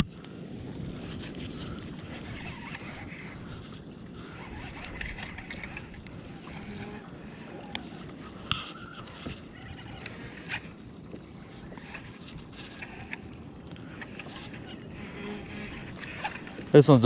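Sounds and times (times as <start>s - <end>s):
water noise: 0.0s - 17.0s
wind noise: 0.0s - 17.0s.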